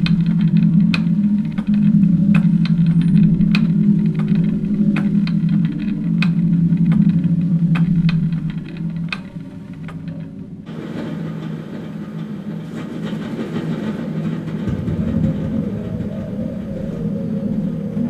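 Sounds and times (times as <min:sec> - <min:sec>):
low drone: 0:00.0 - 0:18.0
mechanical rumble: 0:00.0 - 0:18.0.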